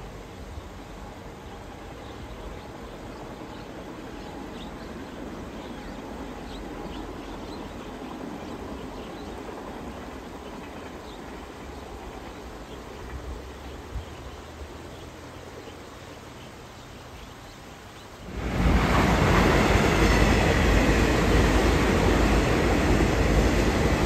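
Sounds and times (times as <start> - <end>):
distant train wheels rumbling: 0.0 - 24.0.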